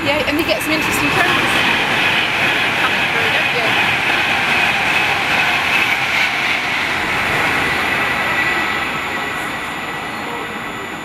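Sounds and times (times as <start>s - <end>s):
passenger train passing at speed: 0.0s - 11.0s.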